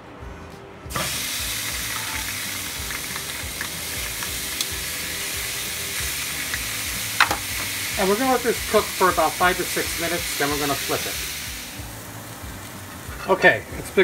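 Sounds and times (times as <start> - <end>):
chicken sizzling on grill pan: 0.9 - 14.0.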